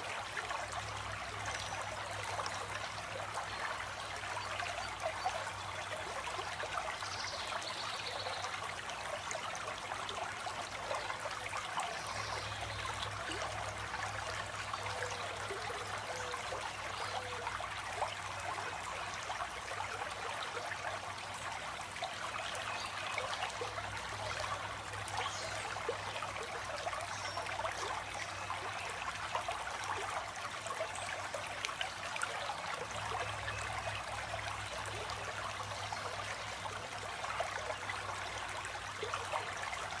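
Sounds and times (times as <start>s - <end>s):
stream babbling: 0.0s - 40.0s.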